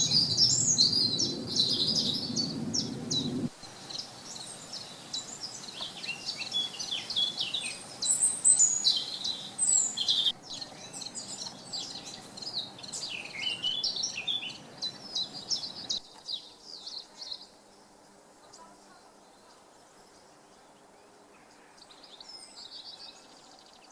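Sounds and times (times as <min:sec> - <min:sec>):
songbirds chorus: 0:00.0 - 0:23.9
steady background hiss: 0:00.0 - 0:23.9.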